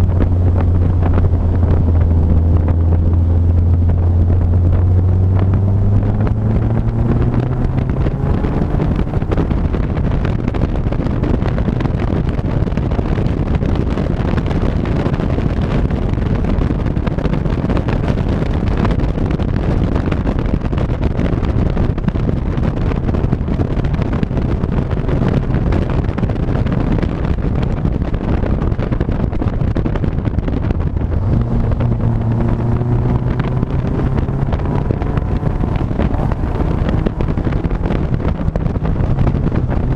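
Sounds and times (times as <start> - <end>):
vehicle engine accelerating: 0.0 - 39.9
wind rushing over microphone: 0.0 - 39.9.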